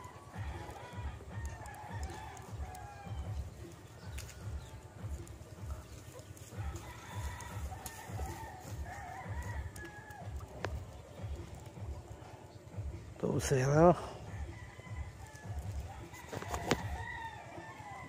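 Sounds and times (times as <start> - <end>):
roosters crowing: 0.0 - 12.4, 13.5 - 18.0.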